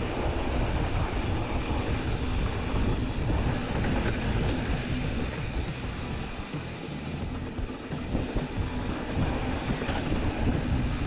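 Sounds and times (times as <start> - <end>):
bike rattling: 0.0 - 11.0
tyres rumbling on dirt: 0.0 - 11.0
wind noise on microphone: 0.0 - 11.0.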